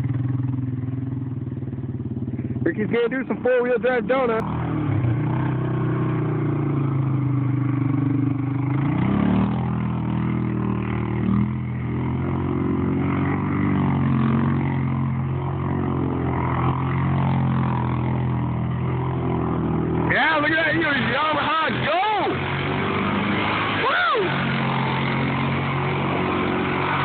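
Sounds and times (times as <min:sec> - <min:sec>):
atv engine revving under load: 0:00.0 - 0:27.0.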